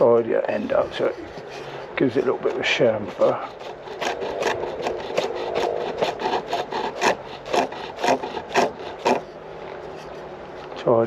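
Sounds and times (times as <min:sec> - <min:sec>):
hand tool scraping wood: 0:00.0 - 0:11.0.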